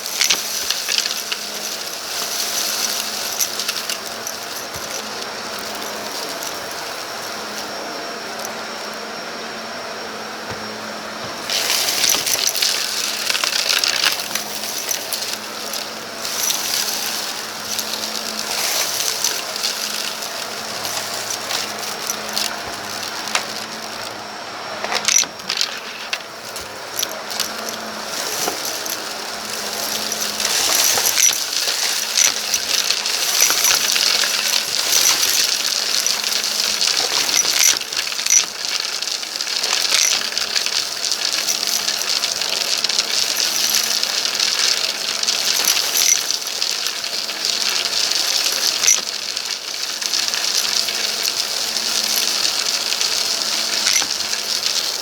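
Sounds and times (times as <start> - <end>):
debris crackling and rattling: 0.0 - 9.0, 10.5 - 55.0
vacuum cleaner running: 0.0 - 55.0.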